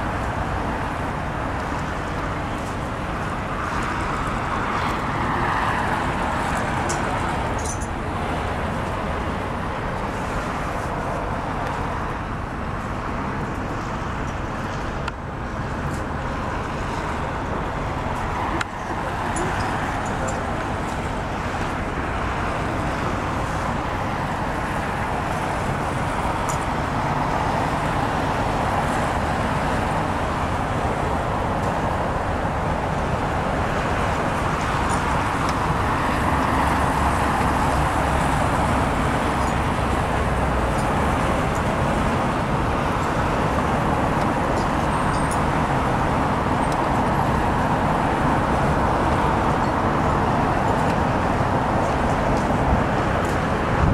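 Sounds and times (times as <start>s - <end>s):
road traffic hum: 0.0s - 53.9s.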